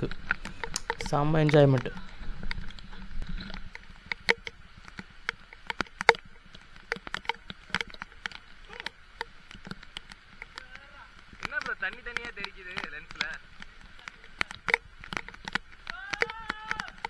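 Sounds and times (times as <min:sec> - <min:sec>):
flowing water rushing: 0:00.0 - 0:17.0
raindrops tapping on camera: 0:00.0 - 0:17.0.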